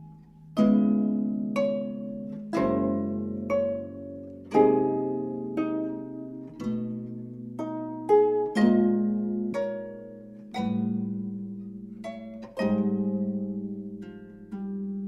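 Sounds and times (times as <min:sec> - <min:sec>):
plucked zither chords: 0:00.0 - 0:15.0.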